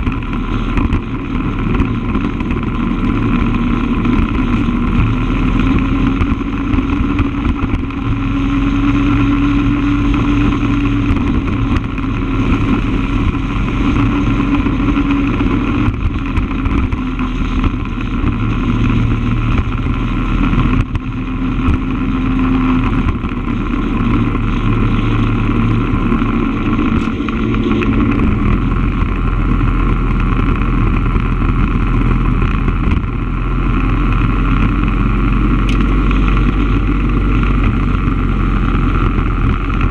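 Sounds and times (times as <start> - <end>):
road and wind noise: 0.0 - 39.9
vehicle engine running: 0.0 - 39.9.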